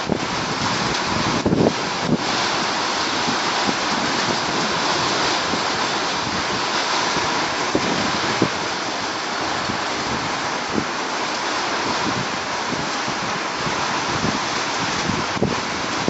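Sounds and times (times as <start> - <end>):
heavy rain falling: 0.0 - 16.0
wind buffeting the microphone: 0.0 - 16.0.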